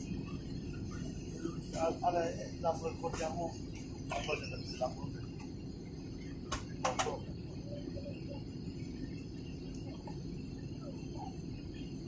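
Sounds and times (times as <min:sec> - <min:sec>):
jet engine drone: 0:00.0 - 0:12.0.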